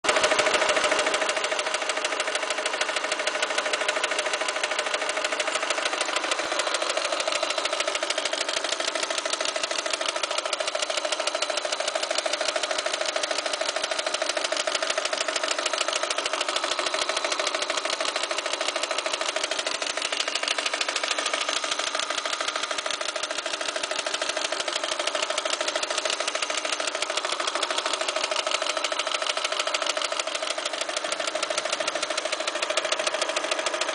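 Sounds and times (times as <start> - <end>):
petrol engine running: 0.1 - 33.9
rapid knocking inside engine: 0.1 - 33.9.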